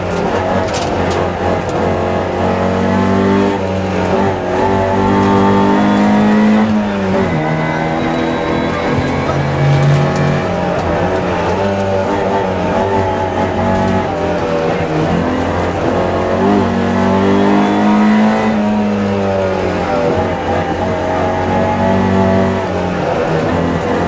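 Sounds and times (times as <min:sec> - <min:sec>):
car engine revving hard: 0:00.0 - 0:24.0.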